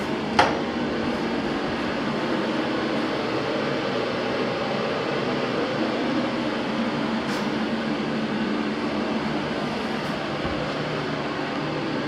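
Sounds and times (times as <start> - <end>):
ventilation fan whoosh and hum: 0.0 - 12.0.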